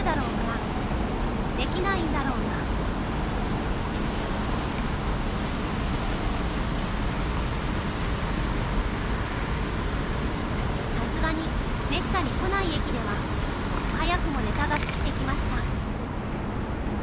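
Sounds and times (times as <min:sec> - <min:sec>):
road traffic rush: 0:00.0 - 0:17.0.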